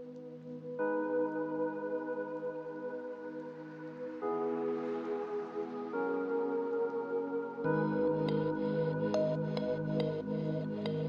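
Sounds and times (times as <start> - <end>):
soft ambient music: 0.0 - 11.0.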